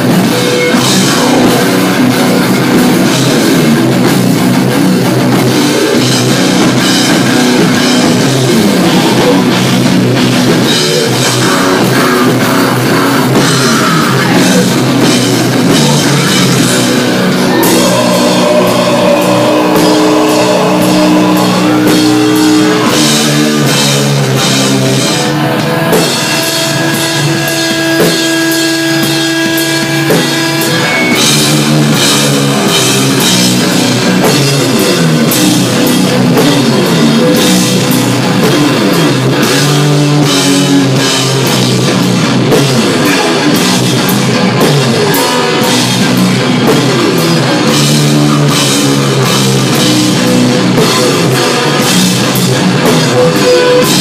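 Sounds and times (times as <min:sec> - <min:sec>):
distorted electric guitars: 0:00.0 - 0:54.0
drum kit pounding: 0:00.0 - 0:54.0.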